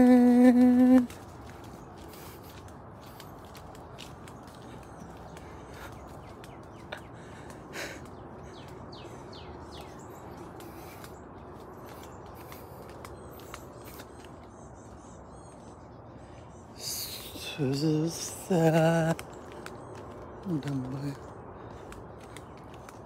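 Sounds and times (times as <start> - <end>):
woodland birds chirping: 0.0 - 23.0.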